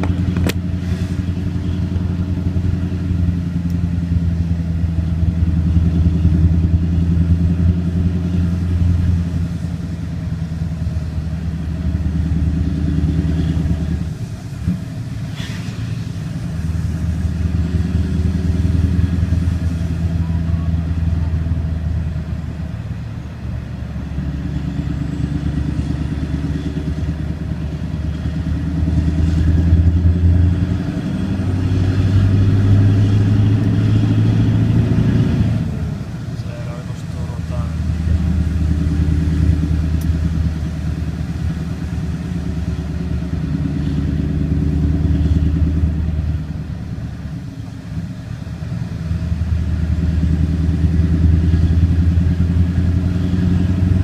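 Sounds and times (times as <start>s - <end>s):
vehicle engine drone inside cabin: 0.0s - 54.0s.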